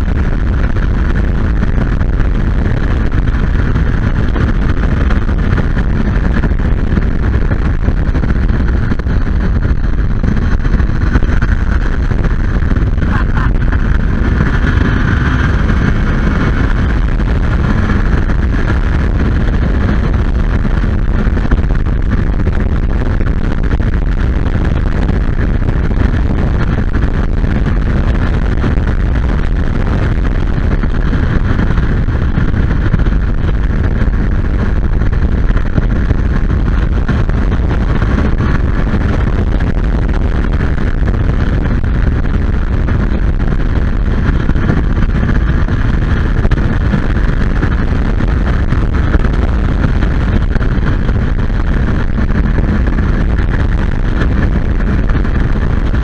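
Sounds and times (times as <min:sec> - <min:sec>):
engine droning: 0:00.0 - 0:56.0
road noise: 0:00.0 - 0:56.0
wind rushing: 0:00.0 - 0:56.0.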